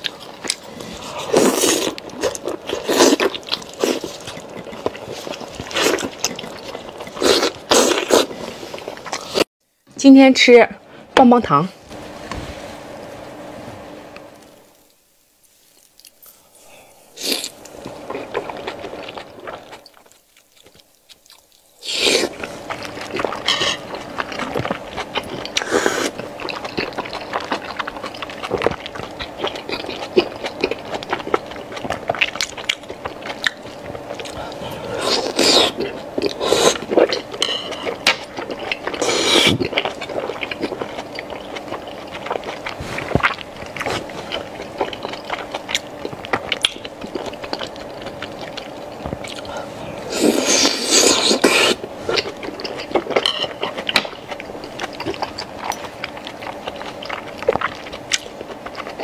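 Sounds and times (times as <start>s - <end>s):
close chewing and biting: 0.0s - 9.5s, 17.3s - 59.0s.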